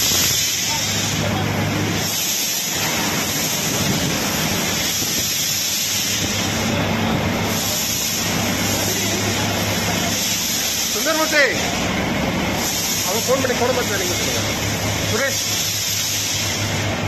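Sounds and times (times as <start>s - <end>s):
train hissing: 0.0s - 17.0s.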